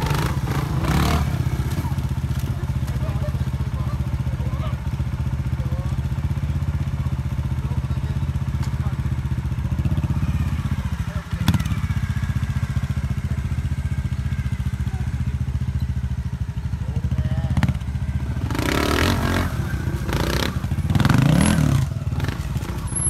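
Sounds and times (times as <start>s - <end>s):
motorcycle engine at low revs: 0.0s - 23.0s.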